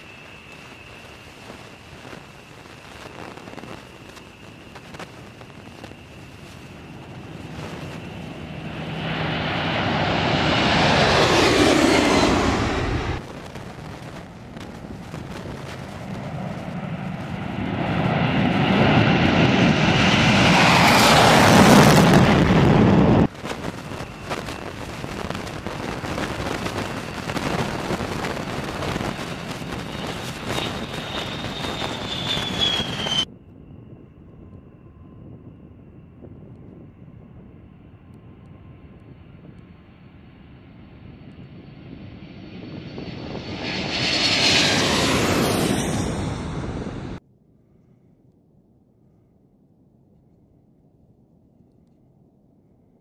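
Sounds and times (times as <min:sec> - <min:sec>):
jet engines roaring on takeoff: 0:00.0 - 0:47.2
quieter jet engine noise: 0:00.0 - 0:53.0.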